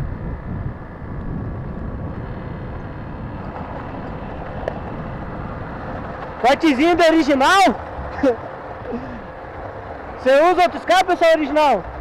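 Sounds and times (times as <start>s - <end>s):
faint engine hum: 0.0s - 12.0s
wind and road noise: 0.0s - 12.0s.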